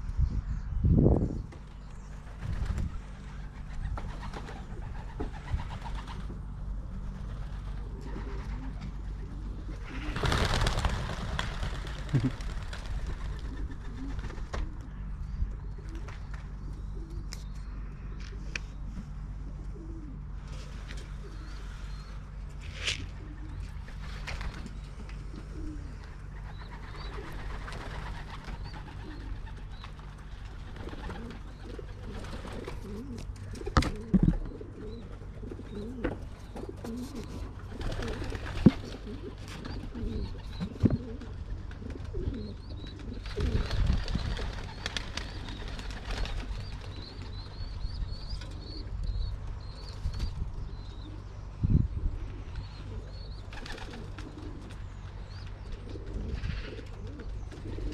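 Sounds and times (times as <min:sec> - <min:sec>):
low hum: 0:00.0 - 0:57.9
pigeons cooing: 0:01.2 - 0:57.9.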